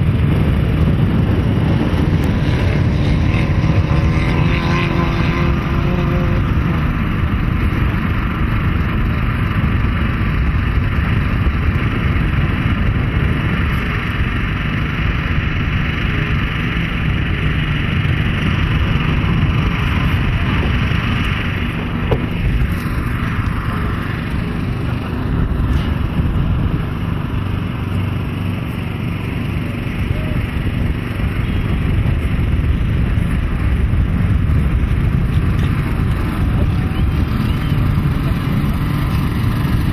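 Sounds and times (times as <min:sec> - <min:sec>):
off-road vehicle engines racing: 0:00.0 - 0:39.9.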